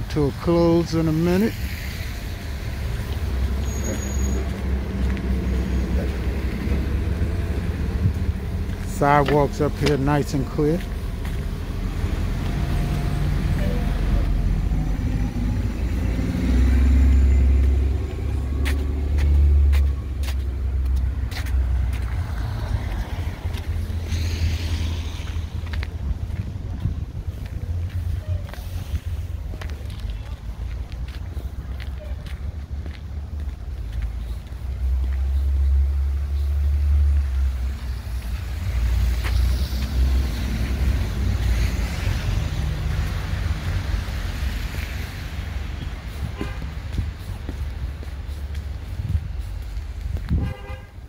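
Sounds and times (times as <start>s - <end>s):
car passing with low rumble: 0.0s - 51.0s
footsteps on sidewalk: 0.0s - 51.0s.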